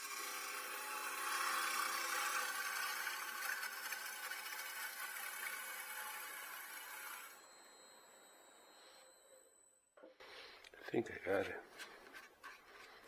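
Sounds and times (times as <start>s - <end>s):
lathe tool scraping wood: 0.0s - 9.4s, 10.8s - 13.0s
faint motor hum: 0.0s - 10.6s.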